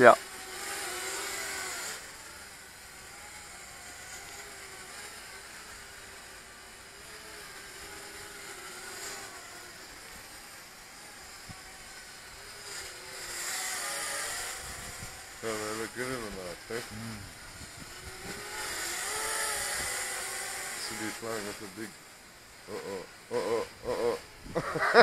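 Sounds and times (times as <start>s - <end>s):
drone motors and propellers whirring: 0.0s - 25.0s
steady hiss: 0.0s - 25.0s.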